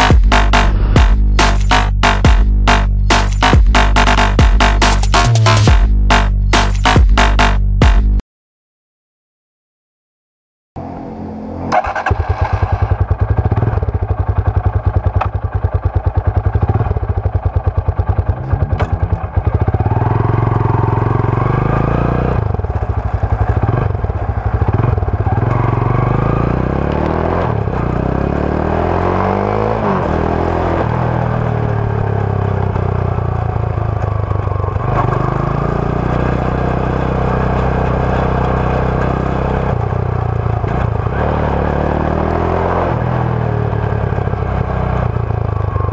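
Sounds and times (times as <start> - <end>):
motorcycle idling and accelerating: 0.0 - 7.2, 10.8 - 45.9.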